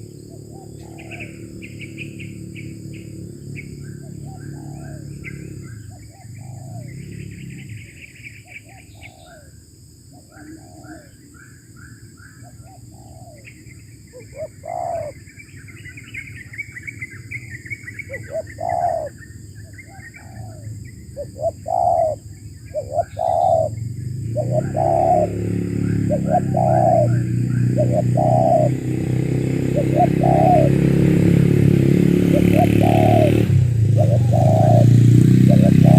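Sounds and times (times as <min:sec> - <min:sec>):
doves cooing: 0:00.0 - 0:11.7, 0:12.3 - 0:35.9
small songbirds twittering: 0:00.0 - 0:35.9.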